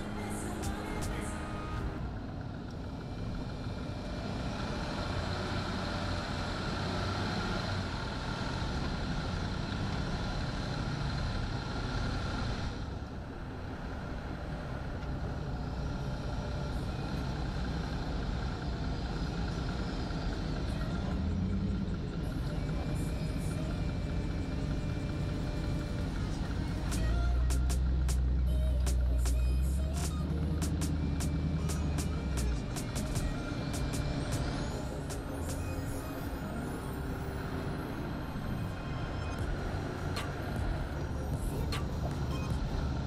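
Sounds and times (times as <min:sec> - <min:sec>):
off-road vehicle engine rumbling: 0:00.0 - 0:43.0
road and body noise: 0:00.0 - 0:43.0.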